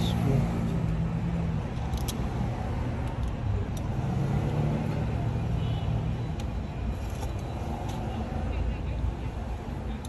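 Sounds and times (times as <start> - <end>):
low rumble of motor vehicles: 0.0 - 10.0.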